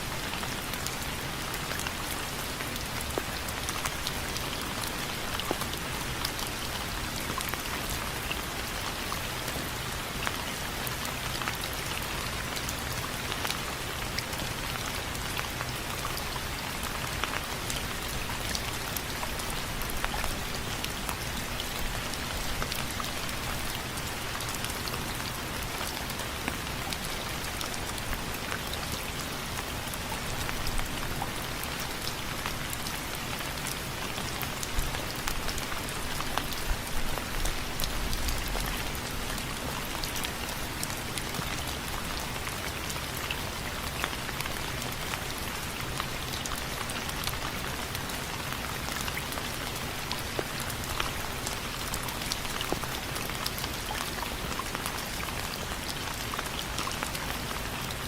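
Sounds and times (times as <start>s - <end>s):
hiss of rainfall: 0.0s - 58.0s.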